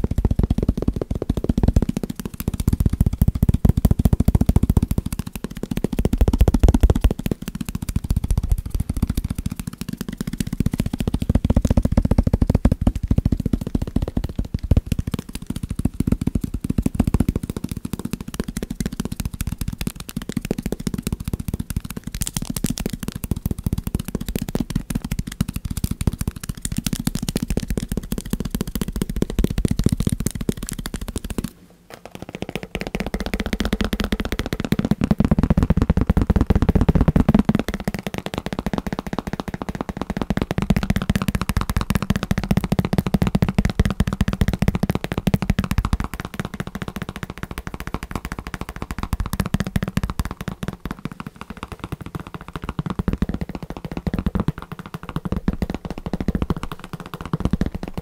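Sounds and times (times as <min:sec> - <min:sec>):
fingertip tapping on sticky notes: 0:00.0 - 0:58.0
tapping on padded armrest: 0:00.0 - 0:58.0.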